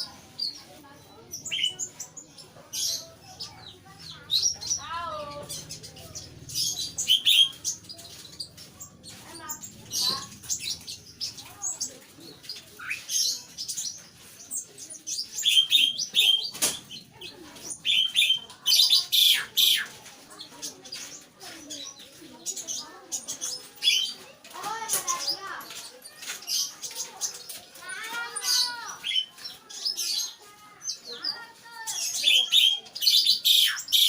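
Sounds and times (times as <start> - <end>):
songbird chirping and trilling: 0.0 - 34.0.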